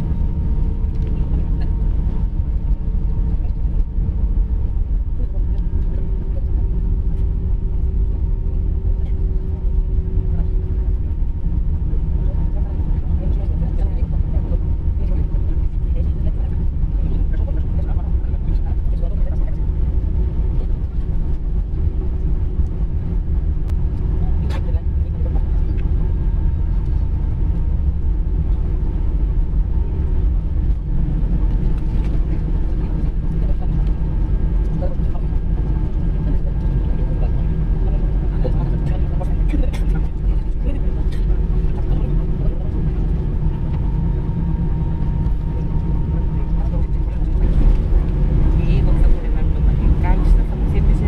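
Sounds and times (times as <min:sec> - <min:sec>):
aircraft cabin low rumble: 0:00.0 - 0:51.0.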